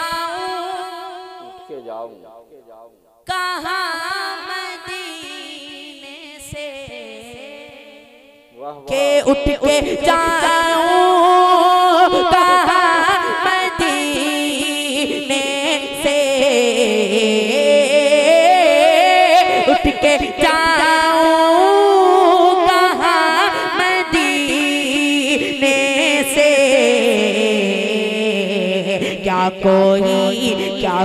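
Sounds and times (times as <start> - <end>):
boy singing into a microphone: 0.0 - 2.3, 3.3 - 31.0.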